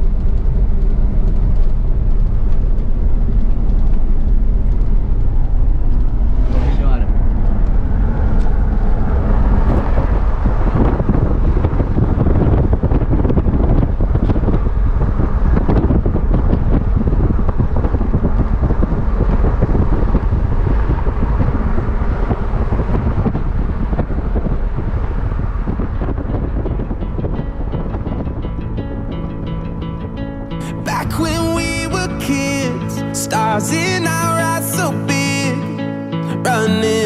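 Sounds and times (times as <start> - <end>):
wind buffeting microphone: 0.0 - 35.4
motorcycle engine and road noise: 0.0 - 37.0.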